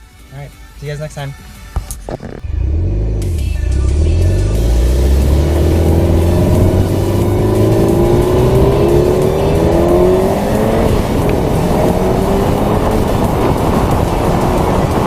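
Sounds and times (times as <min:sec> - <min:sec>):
car engine accelerating hard: 0:02.4 - 0:15.0.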